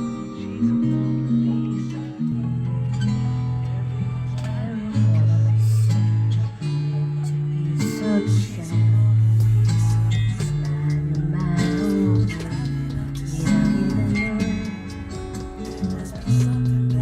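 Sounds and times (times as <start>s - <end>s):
long held bass notes: 0.0s - 17.0s
strummed acoustic guitar: 0.0s - 17.0s.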